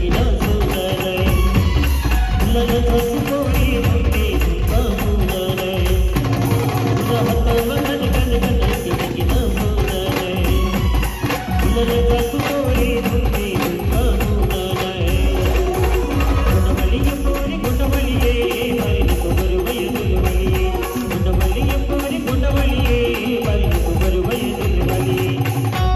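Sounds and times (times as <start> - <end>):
amplified band music: 0.0 - 25.9
heavy bass: 0.0 - 25.9
steady percussion beat: 0.0 - 25.9.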